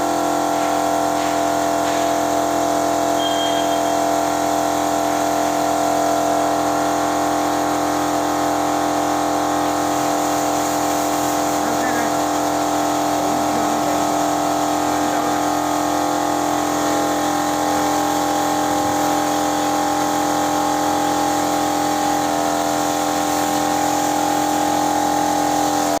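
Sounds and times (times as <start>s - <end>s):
machine humming: 0.3s - 26.0s.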